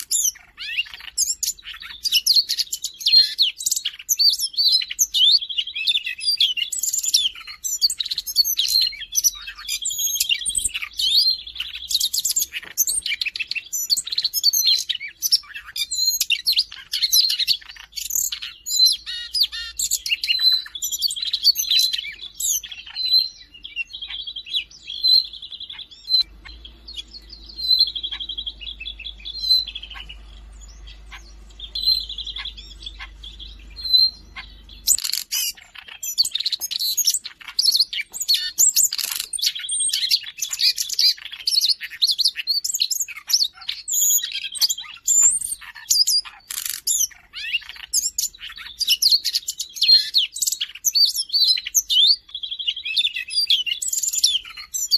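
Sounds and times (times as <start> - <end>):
bird singing whistles and trills: 0.0 - 54.9.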